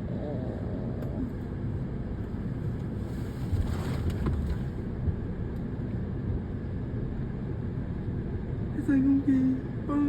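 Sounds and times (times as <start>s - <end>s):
vehicle driving rumble: 0.0s - 10.0s.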